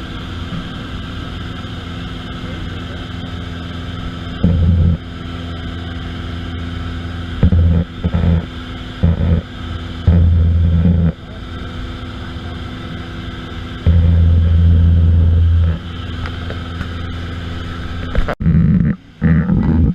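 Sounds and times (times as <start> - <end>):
aircraft engine drone: 0.0 - 19.9
low-pitched engine surges: 0.0 - 19.9.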